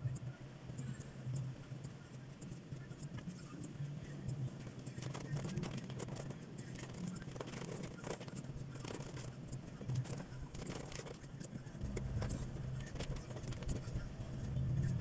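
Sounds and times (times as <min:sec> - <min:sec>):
low steady hum: 0:00.0 - 0:15.0
rain tapping on car roof: 0:00.7 - 0:15.0.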